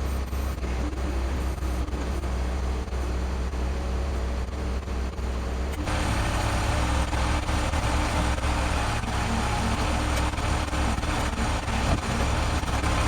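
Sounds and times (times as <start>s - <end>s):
heavy truck engine idling: 0.0s - 13.0s.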